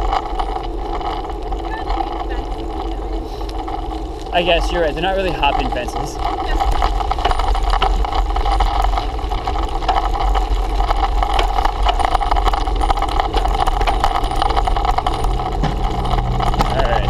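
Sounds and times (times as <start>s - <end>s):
bicycle rattling clicks: 0.0s - 17.0s.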